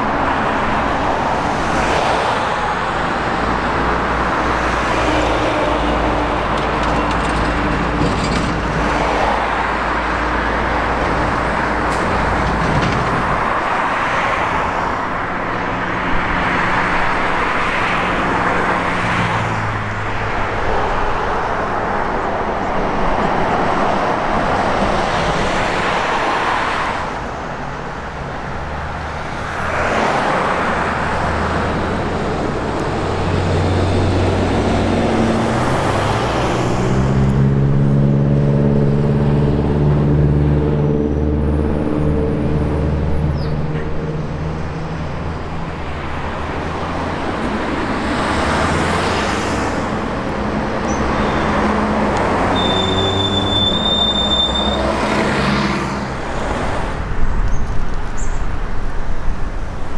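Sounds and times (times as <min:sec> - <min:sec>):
heavy diesel engine hum: 0:00.0 - 0:25.9, 0:30.2 - 0:57.9
buses and cars passing: 0:00.0 - 0:59.9.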